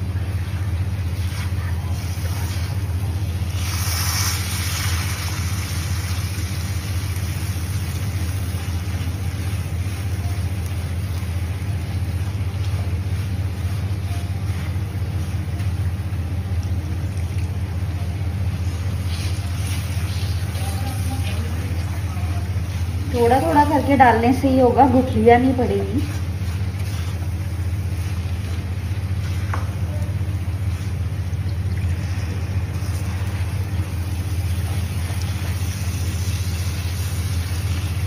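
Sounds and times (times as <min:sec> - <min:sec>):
milk sizzling in hot wok: 0:00.0 - 0:38.0.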